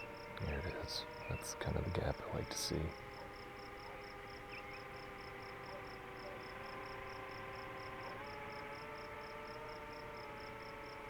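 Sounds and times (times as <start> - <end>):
distant drone motors whining: 0.0 - 11.0
insect chirping: 0.0 - 11.0.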